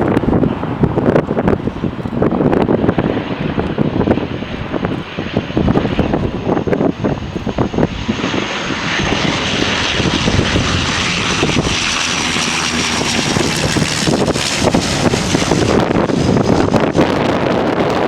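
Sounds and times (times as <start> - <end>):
jet engines rushing: 0.0 - 18.0
wind buffeting microphone: 0.0 - 18.0.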